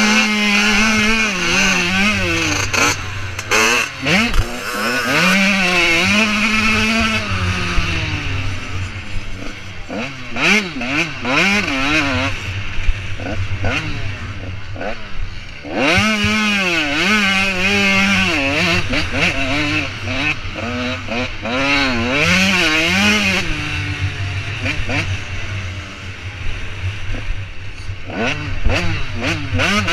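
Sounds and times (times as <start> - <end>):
motorbike engine revving hard: 0.0 - 29.9.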